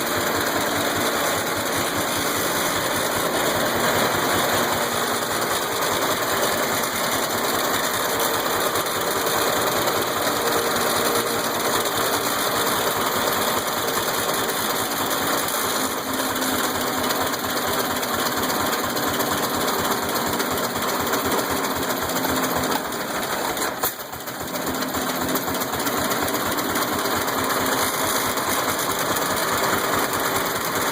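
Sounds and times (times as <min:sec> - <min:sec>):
old engine running: 0:00.0 - 0:30.9.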